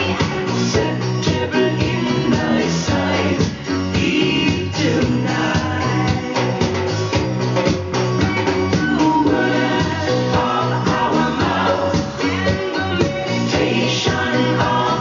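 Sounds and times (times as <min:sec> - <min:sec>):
song with singing and drums: 0:00.0 - 0:15.0.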